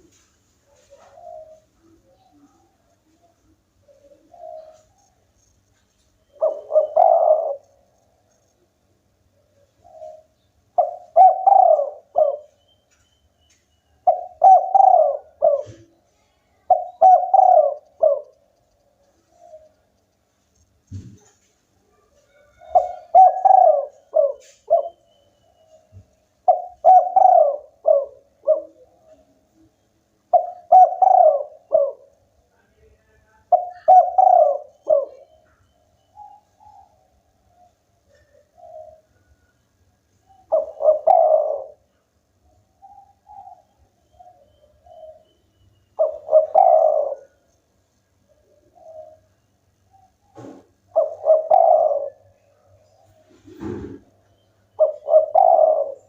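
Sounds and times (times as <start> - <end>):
dove cooing: 0.0 - 8.6, 9.4 - 12.7, 13.9 - 19.9, 20.9 - 32.1, 33.4 - 39.6, 40.2 - 47.5, 48.2 - 56.0.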